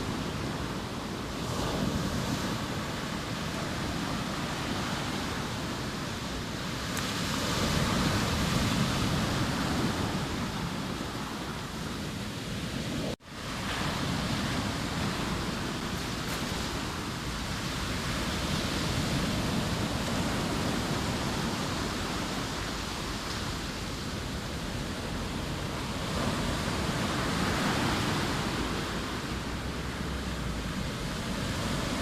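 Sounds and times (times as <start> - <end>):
sea waves breaking on shore: 0.0 - 32.0.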